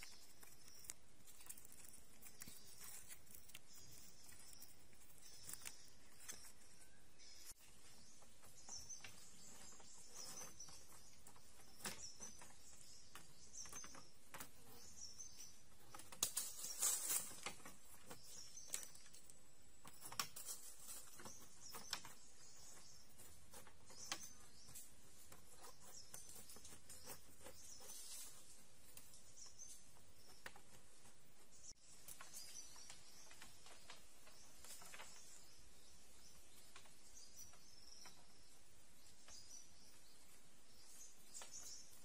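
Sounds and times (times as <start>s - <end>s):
rustling or crackling: 0.0s - 35.6s.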